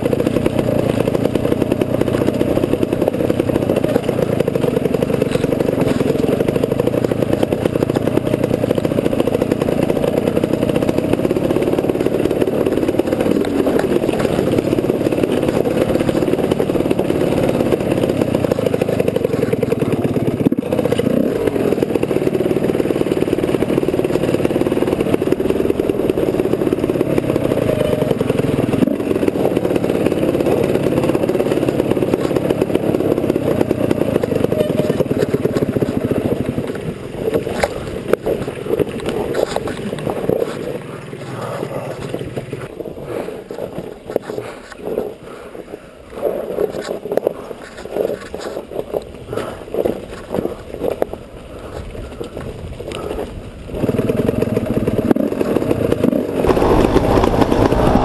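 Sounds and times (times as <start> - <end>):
dirt bike engine: 0.0 - 45.9, 53.0 - 58.0.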